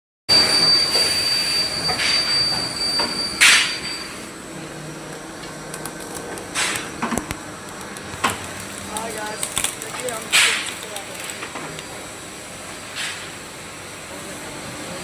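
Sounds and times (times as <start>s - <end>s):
machine high-pitched whine: 0.3s - 12.7s.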